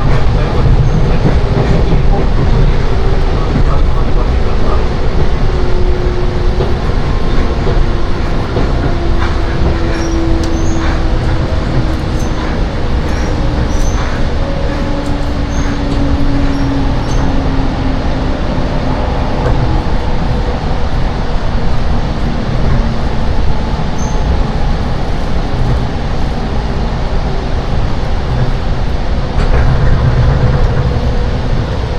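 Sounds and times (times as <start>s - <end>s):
train humming tone: 0.0s - 31.9s
train wheels rumbling: 0.0s - 31.9s.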